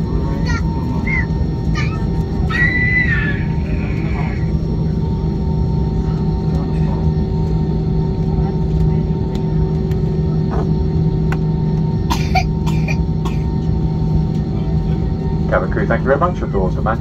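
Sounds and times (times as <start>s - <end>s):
aircraft cabin drone: 0.0s - 17.0s.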